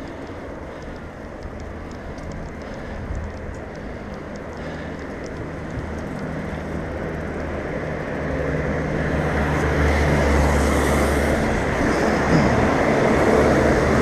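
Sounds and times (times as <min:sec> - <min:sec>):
vehicle engine hum: 0:00.0 - 0:14.0
wet road and wind hiss: 0:00.0 - 0:14.0.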